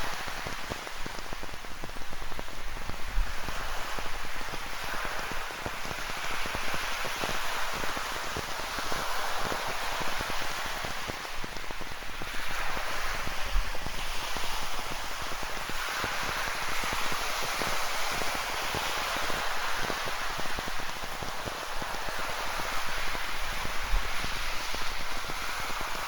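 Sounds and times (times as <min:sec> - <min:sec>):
ocean surf: 0:00.0 - 0:26.0
steady rain falling: 0:00.0 - 0:26.0.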